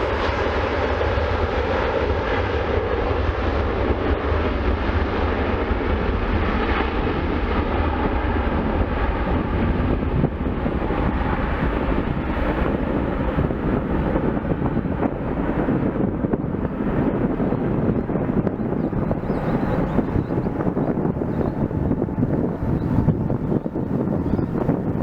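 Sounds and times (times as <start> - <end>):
jet engines rumbling: 0.0 - 25.0
wind buffeting microphone: 0.0 - 25.0.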